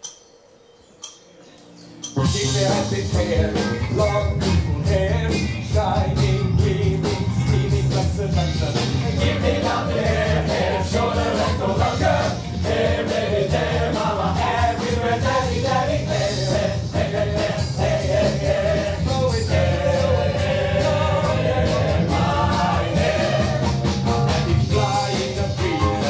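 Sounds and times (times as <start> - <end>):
rock band accompaniment: 2.1 - 26.0
group singing: 2.2 - 26.0.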